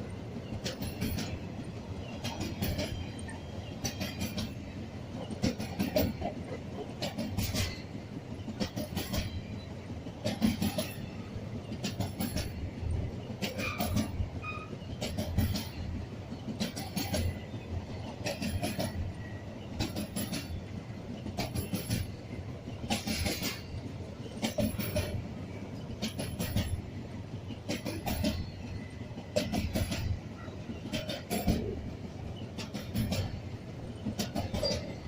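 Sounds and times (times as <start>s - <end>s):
low rumble of railway cars: 0.0s - 35.0s
train wheels clicking over rail joint: 0.0s - 35.0s.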